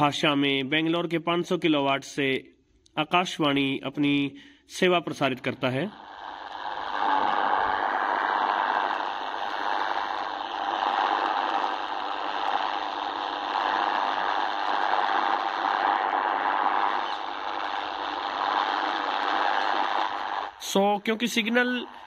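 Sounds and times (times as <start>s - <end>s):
shortwave radio static and hiss: 3.7s - 22.0s.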